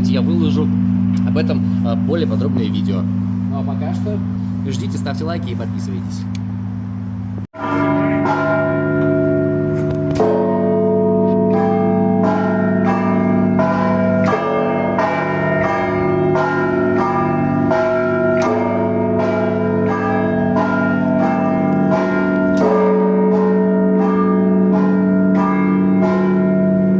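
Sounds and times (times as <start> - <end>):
church bells ringing rapidly: 0.0 - 6.3, 7.6 - 26.9
deep bell struck: 0.0 - 26.9.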